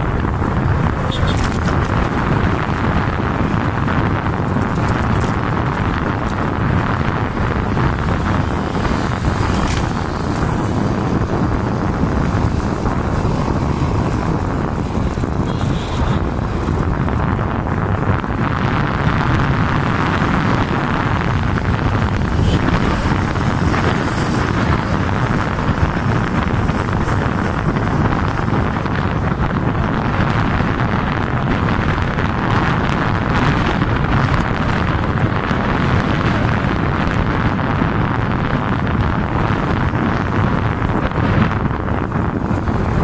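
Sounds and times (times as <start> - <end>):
engine and road noise: 0.0 - 43.0
wind buffeting microphone: 0.0 - 43.0.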